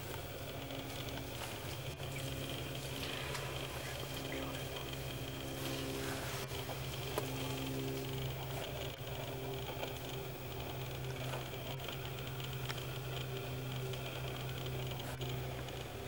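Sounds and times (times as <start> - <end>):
lens motor whir: 0.0 - 16.0
low mechanical hum: 0.0 - 16.0.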